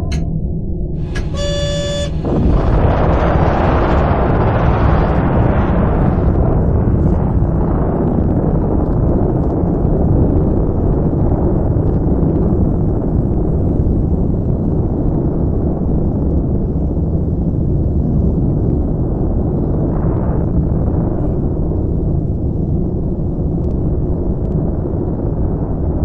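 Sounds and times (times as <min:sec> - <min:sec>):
explosion rumble with hiss: 0:02.1 - 0:26.0.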